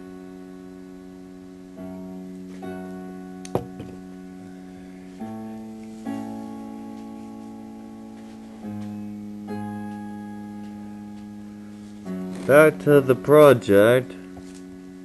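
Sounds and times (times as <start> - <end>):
electronic keyboard chords: 0.0 - 15.0.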